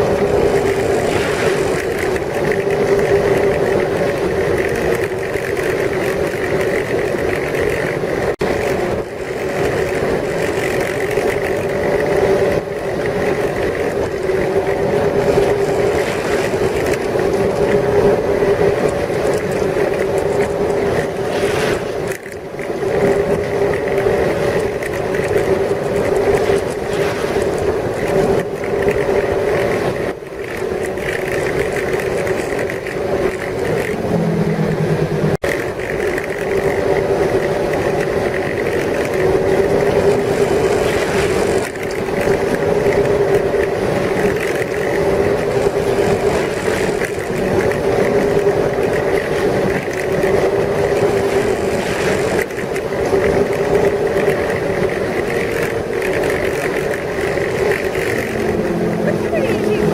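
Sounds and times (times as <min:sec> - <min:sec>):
boat engine running at speed: 0:00.0 - 0:59.9
noisy rush: 0:00.0 - 0:59.9.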